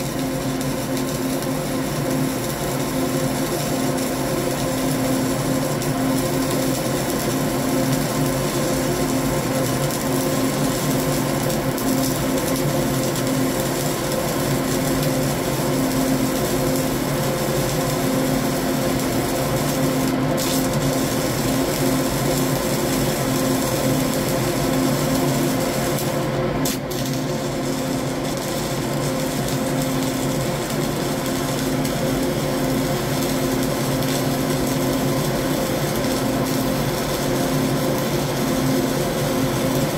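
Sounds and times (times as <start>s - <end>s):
welding arc hissing and crackling: 0.0s - 39.9s.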